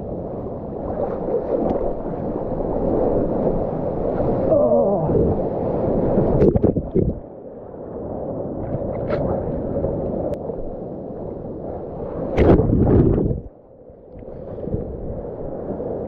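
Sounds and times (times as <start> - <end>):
foam washing and paddling water: 0.0 - 13.5, 14.2 - 16.0.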